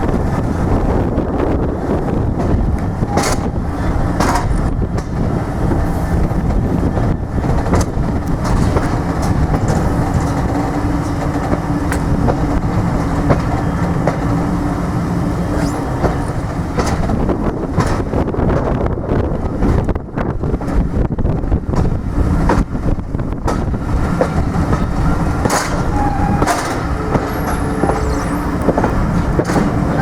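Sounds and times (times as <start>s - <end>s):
train rumbling past: 0.0s - 30.0s
wheel clicks over rail joints: 2.3s - 18.9s, 21.6s - 30.0s.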